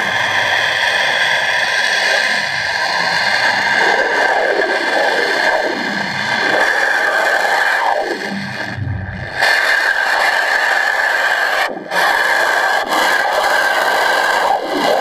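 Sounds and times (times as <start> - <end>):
pressure washer jet underwater: 0.0 - 15.0.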